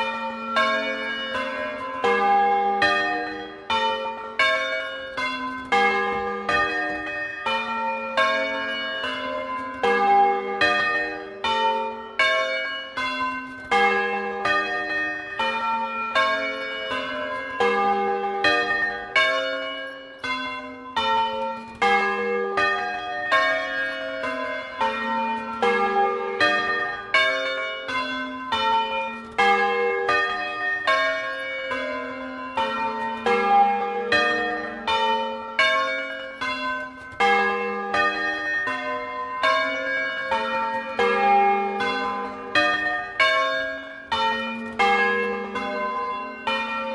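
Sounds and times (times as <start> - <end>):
bronze bells ringing: 0.0 - 46.9.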